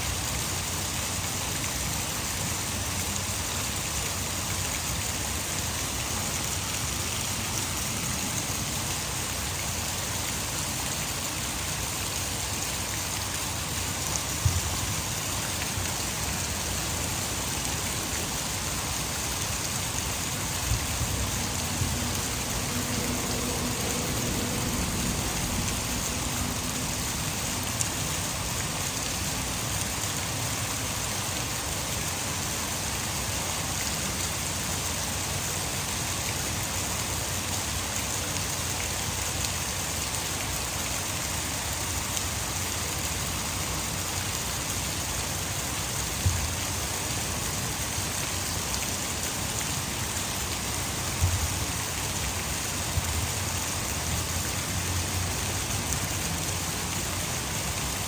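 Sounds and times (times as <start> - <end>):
heavy rain: 0.0 - 58.0
water rushing from dam: 0.0 - 58.0.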